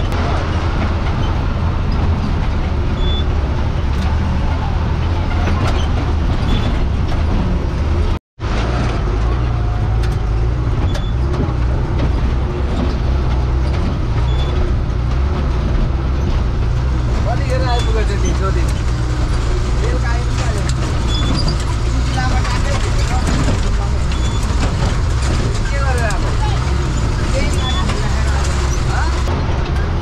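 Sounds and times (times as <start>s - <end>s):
bus body knocks and rattles: 0.0s - 30.0s
bus engine drone: 0.0s - 30.0s.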